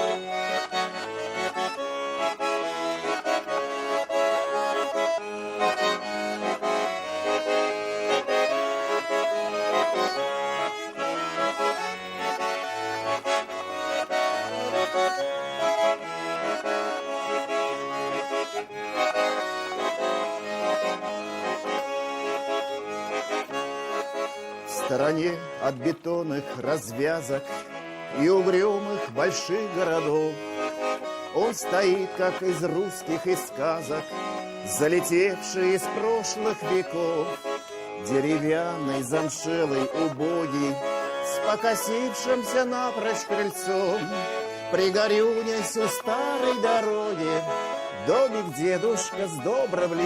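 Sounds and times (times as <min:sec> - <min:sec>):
accordion melody with bass: 0:00.0 - 0:50.0.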